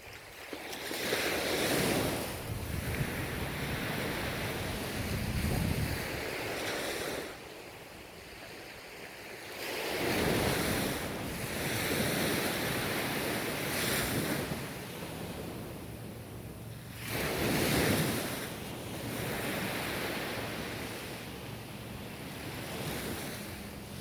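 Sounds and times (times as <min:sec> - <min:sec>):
ocean waves breaking: 0:00.0 - 0:24.0
wind on microphone: 0:00.0 - 0:24.0.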